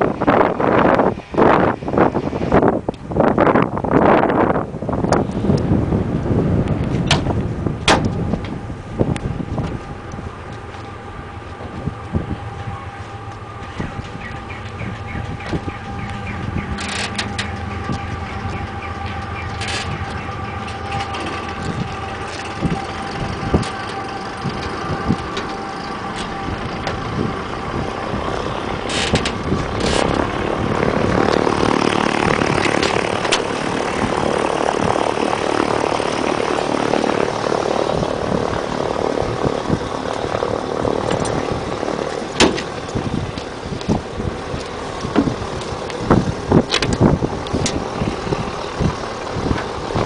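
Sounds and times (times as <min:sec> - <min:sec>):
propeller aircraft engine: 0:00.0 - 0:50.0.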